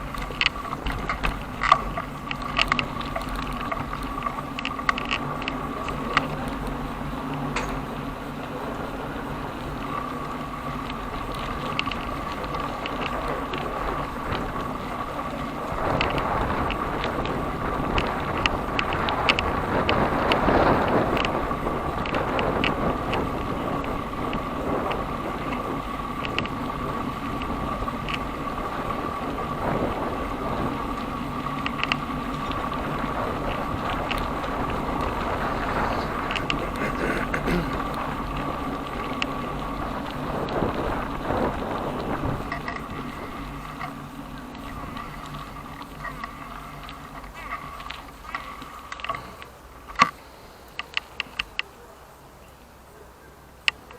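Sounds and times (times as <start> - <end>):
bicycle clicks and rattles: 0.0 - 51.8
bicycle rolling: 0.0 - 53.9.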